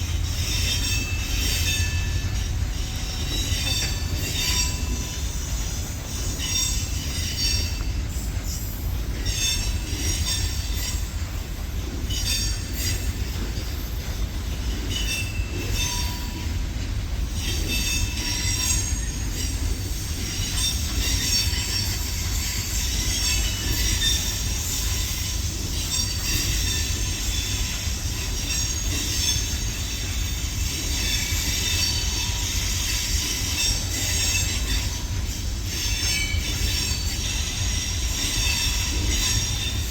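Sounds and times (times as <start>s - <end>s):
train rumbling on track: 0.0s - 39.9s
wheels squealing on rails: 0.0s - 39.9s.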